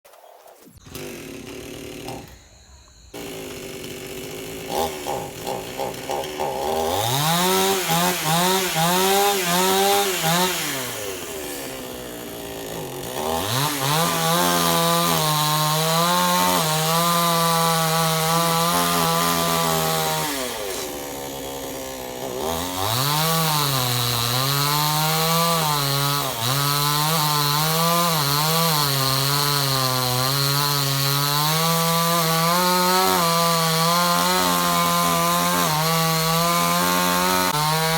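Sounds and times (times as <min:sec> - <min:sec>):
chainsaw cutting wood: 0:00.6 - 0:37.9.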